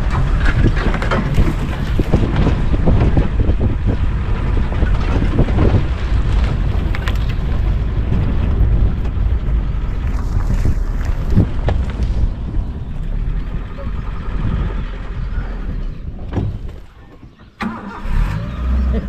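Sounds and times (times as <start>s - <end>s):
vehicle knocks and rattles: 0.0s - 17.6s
wind buffeting microphone: 0.0s - 18.8s
jeep engine rumble: 0.0s - 19.0s.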